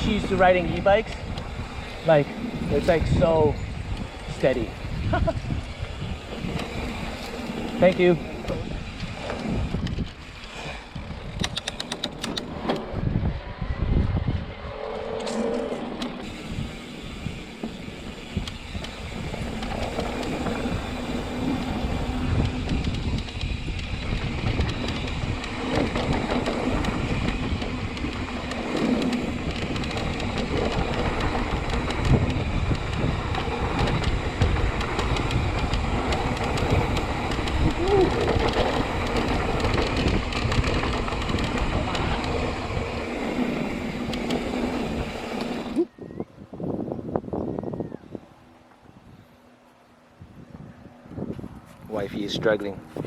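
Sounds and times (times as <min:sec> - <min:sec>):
rapid bike clicks: 0:00.0 - 0:12.9, 0:14.9 - 0:45.8
bike tyres rolling on dirt: 0:00.0 - 0:45.8
wind rumbling on microphone: 0:00.0 - 0:53.0.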